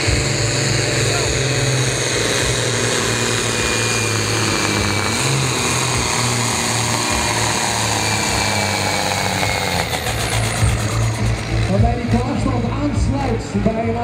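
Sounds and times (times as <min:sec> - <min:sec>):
tractor diesel engine at full load: 0:00.0 - 0:14.0.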